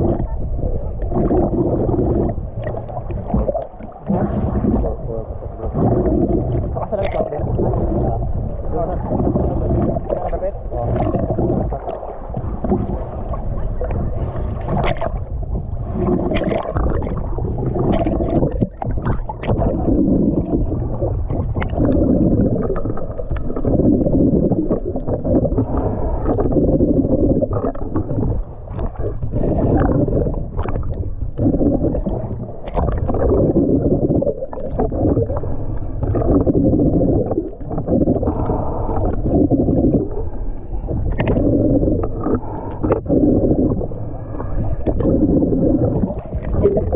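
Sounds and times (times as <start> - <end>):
muffled underwater water noise: 0.0 - 46.9
water gurgling: 0.0 - 46.9
sharp clicks underwater: 1.0 - 5.0, 5.6 - 15.4, 16.0 - 46.9.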